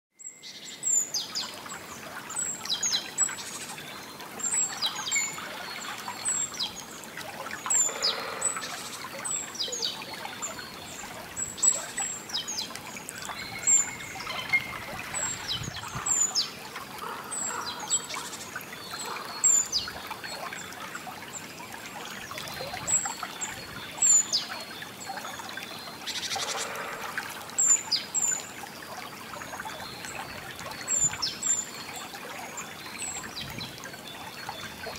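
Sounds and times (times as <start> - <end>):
trickle of running water: 0.2 - 34.9.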